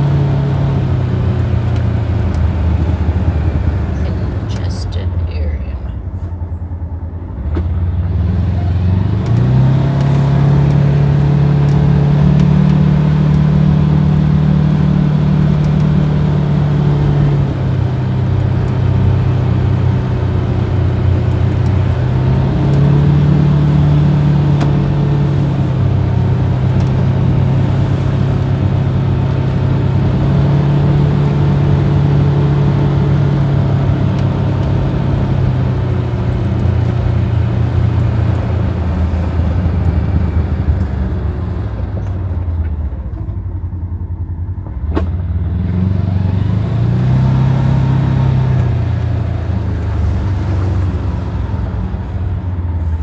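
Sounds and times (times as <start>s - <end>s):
road and wind noise: 0.0s - 53.0s
vehicle engine running: 0.0s - 53.0s.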